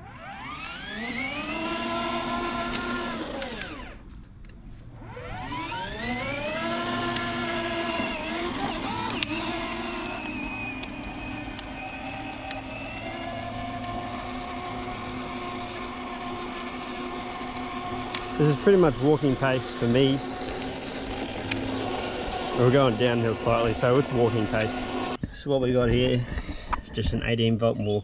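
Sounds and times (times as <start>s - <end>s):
electric toy car motors whining: 0.0s - 25.2s.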